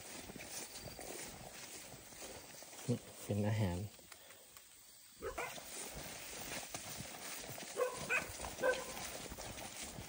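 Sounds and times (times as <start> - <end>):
footsteps in rubber boots on wet grass: 0.0 - 10.0
grass and leaves rustling: 0.0 - 10.0.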